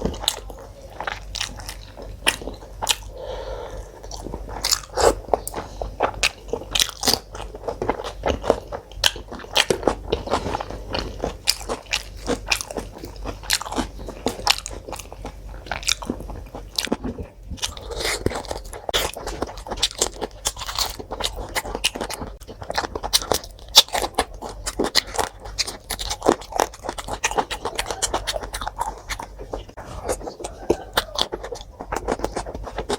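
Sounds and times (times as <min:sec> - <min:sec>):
crunching food: 0:00.0 - 0:32.9
person biting and chewing: 0:00.0 - 0:32.9.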